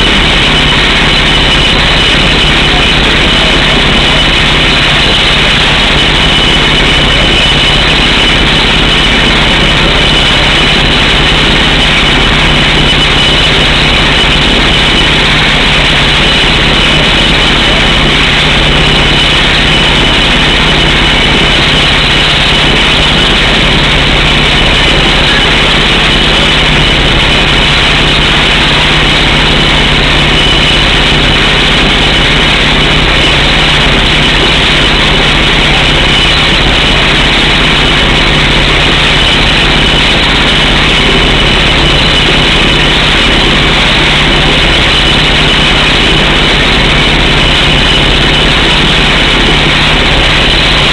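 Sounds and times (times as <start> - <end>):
air hammer drilling rock: 0.0 - 50.9
truck engine running: 0.0 - 50.9.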